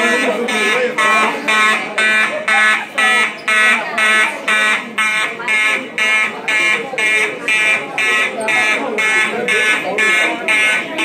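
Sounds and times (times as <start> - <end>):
buzzy fire alarm horn blasts: 0.0 - 11.0.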